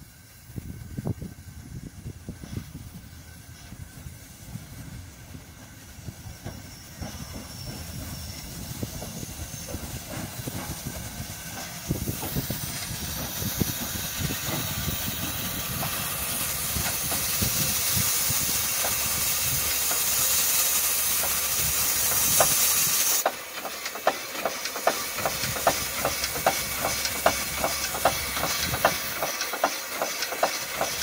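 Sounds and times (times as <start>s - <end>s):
steam locomotive hissing: 0.0s - 31.0s.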